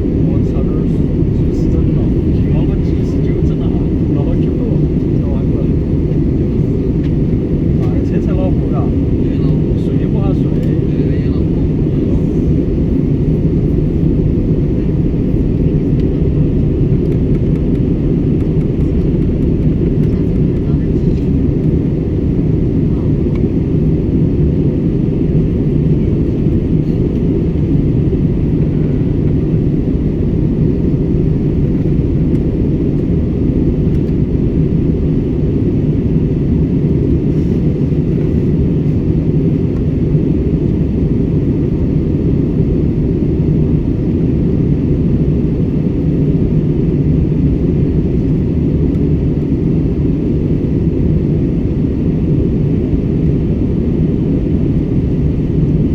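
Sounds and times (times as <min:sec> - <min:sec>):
airliner cabin roar: 0:00.0 - 0:55.9.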